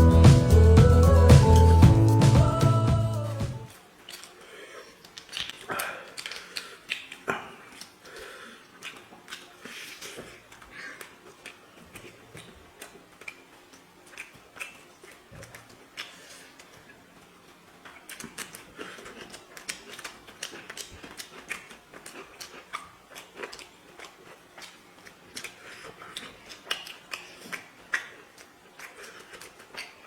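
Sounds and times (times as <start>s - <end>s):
chewing and mouth sounds: 4.0s - 30.0s.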